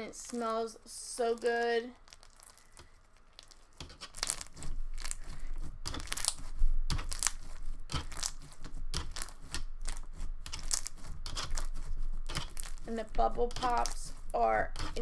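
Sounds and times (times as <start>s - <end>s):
slime popping and crackling: 0.0s - 15.0s.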